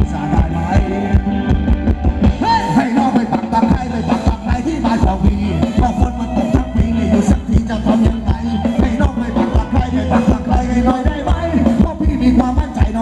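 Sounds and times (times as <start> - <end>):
live band playing dance music: 0.0 - 13.0
steady drum beat: 0.0 - 13.0.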